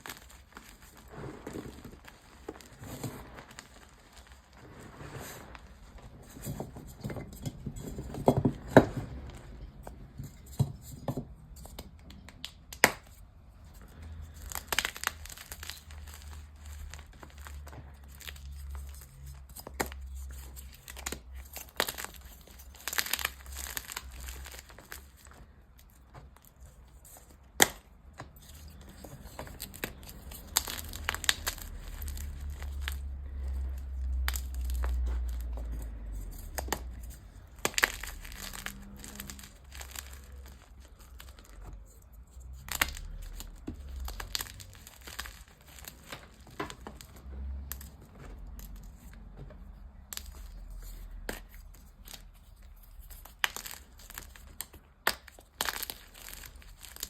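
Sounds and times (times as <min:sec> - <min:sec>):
chalk crunching and crackling: 0:00.0 - 0:11.0, 0:11.6 - 0:57.0.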